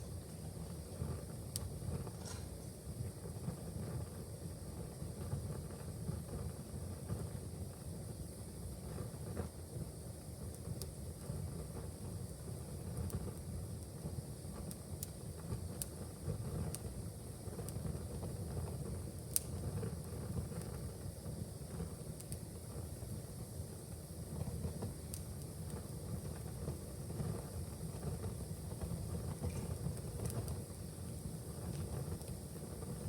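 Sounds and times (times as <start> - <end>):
fireplace fire crackling: 0.0 - 33.0
low fire rumble: 0.0 - 33.0.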